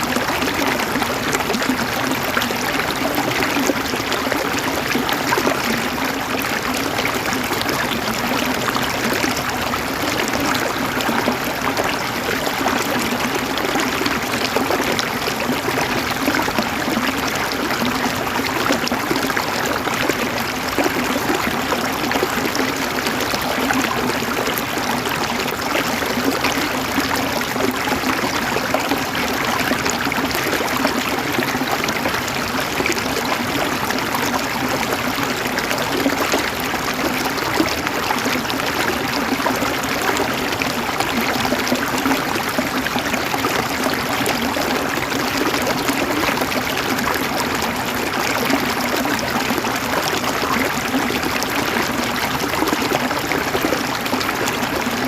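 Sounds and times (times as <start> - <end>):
river gurgling over stones: 0.0 - 55.0.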